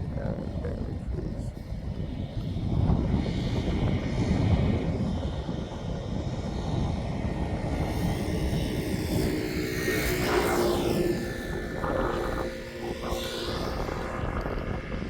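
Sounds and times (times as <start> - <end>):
jet engines low rumble: 0.0 - 15.0.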